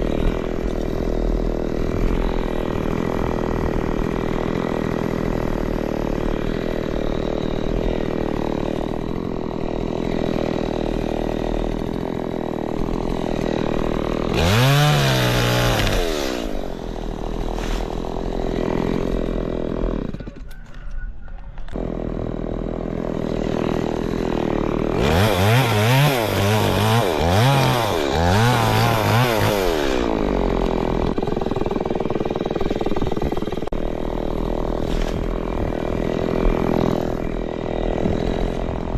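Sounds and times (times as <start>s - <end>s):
chainsaw idling and revving: 0.0s - 20.8s, 21.6s - 38.9s.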